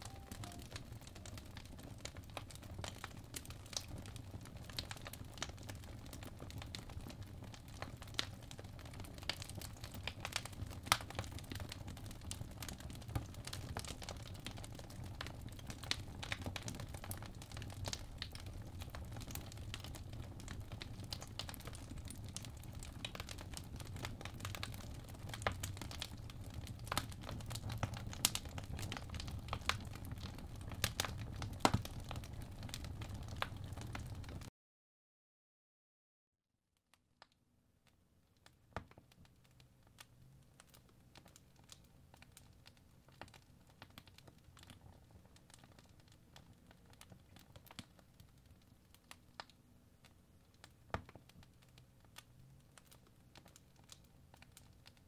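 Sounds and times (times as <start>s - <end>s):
fireplace crackling: 0.0s - 34.5s, 37.8s - 55.0s.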